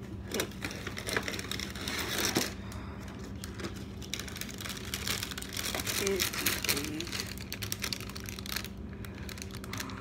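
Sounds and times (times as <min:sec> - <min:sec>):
crackling handling noise: 0:00.0 - 0:10.0
steady low hum: 0:00.0 - 0:10.0.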